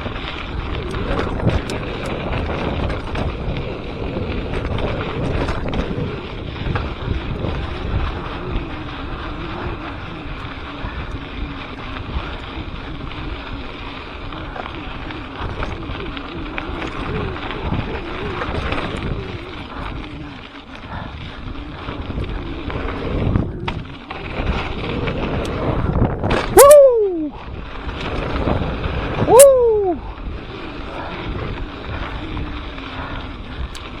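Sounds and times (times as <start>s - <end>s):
bike rumble: 0.0s - 34.0s
wind buffeting microphone: 0.0s - 34.0s.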